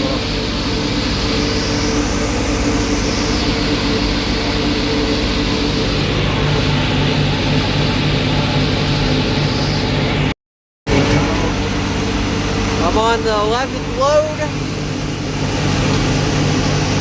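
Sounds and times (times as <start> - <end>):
forage harvester whirring: 0.0 - 10.3, 10.9 - 17.0
tractor engine drone: 0.0 - 17.0.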